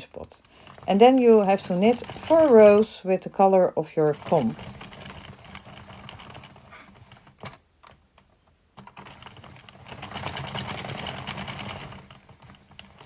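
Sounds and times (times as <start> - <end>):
knitting machine clattering clicks: 0.0 - 3.2, 3.9 - 13.0.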